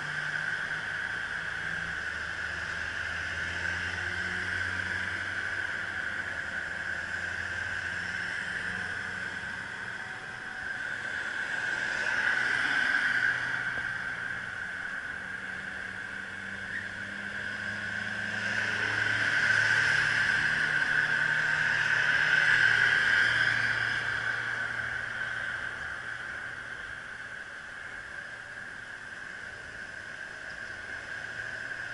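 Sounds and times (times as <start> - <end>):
electric bicycle whine: 0.0 - 31.9
street traffic: 0.0 - 31.9.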